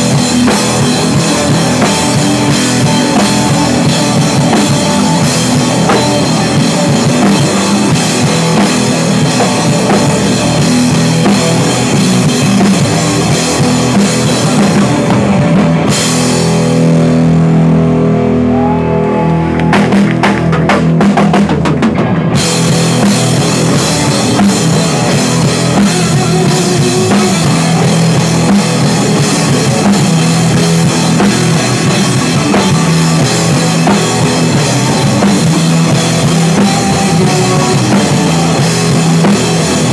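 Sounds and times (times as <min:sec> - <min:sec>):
drum kit with cymbals: 0:00.0 - 0:17.8, 0:19.7 - 0:39.9
electric guitar chords: 0:00.0 - 0:39.9
live rock band playing: 0:00.0 - 0:39.9.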